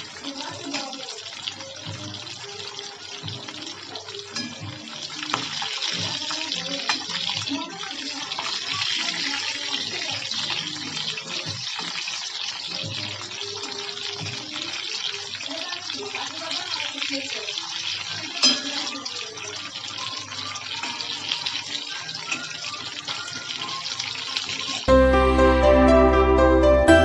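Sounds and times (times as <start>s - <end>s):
faint music with a voice: 0.0s - 24.9s
fish sizzling in hot oil: 0.0s - 24.9s.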